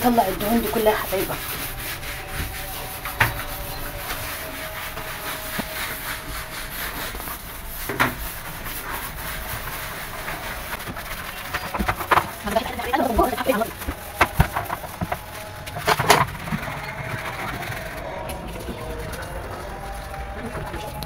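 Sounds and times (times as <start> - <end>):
cloth wiping a shelf: 0.0 - 20.8.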